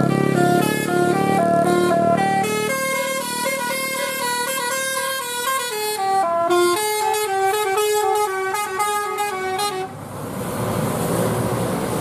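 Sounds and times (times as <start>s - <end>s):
multi-tone bus horn melody: 0.0s - 10.0s
traffic engine and road noise: 0.0s - 12.0s.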